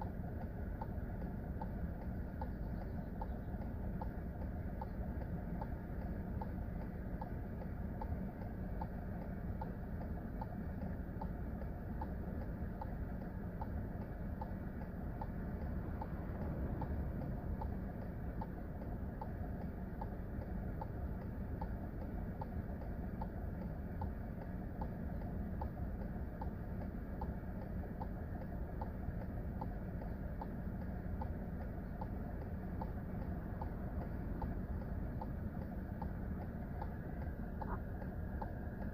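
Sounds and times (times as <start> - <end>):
engine and road rumble: 0.0 - 38.9
faint ticking: 0.0 - 38.9.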